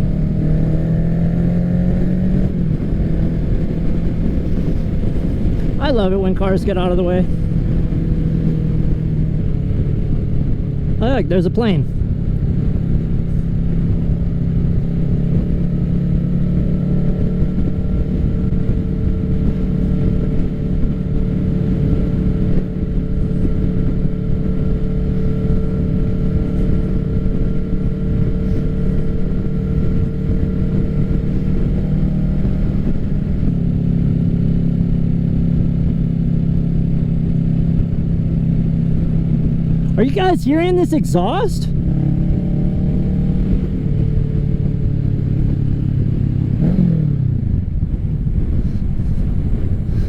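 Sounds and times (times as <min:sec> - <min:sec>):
motorcycle engine cruising: 0:00.0 - 0:50.0.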